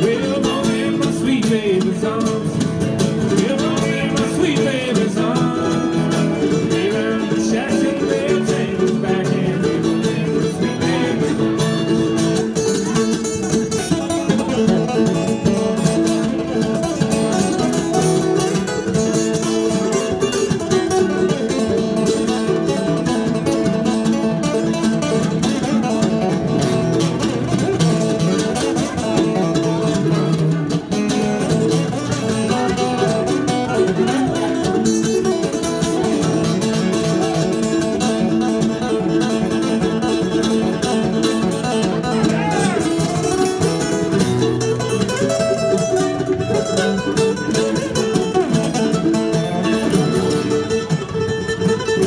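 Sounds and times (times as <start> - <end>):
acoustic guitar strumming: 0.0 - 52.0
mandolin playing: 0.0 - 52.0.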